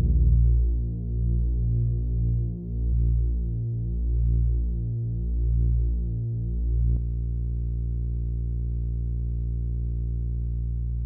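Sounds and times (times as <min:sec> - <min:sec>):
low synthesizer drone: 0:00.0 - 0:11.0.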